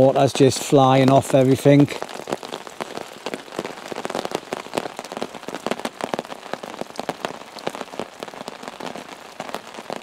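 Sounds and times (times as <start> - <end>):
pouring rain: 0.0 - 10.0.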